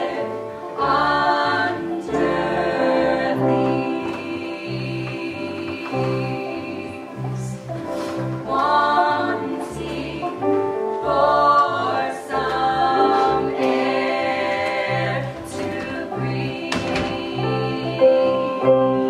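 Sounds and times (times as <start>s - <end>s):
women singing in harmony: 0.0s - 19.0s.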